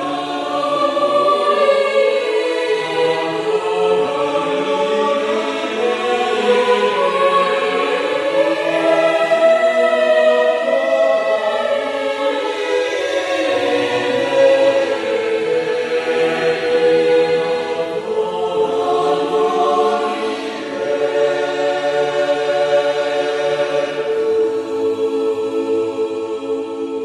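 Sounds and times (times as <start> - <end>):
church choir singing: 0.0 - 27.0.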